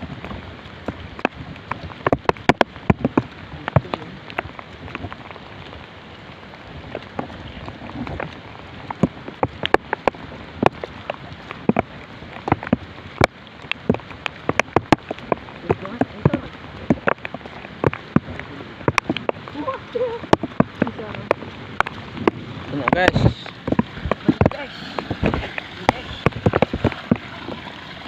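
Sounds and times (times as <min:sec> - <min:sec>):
rain falling: 0:00.0 - 0:28.0
raindrops tapping near microphone: 0:00.0 - 0:28.0.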